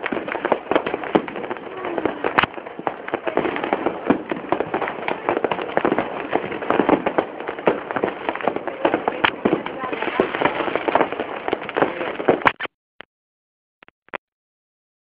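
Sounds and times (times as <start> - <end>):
fireworks crackling and banging: 0.0 - 12.7.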